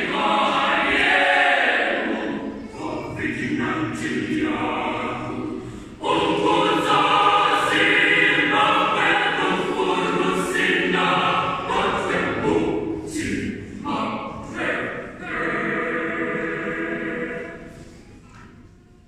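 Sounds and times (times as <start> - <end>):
choir singing a cappella: 0.0 - 18.4.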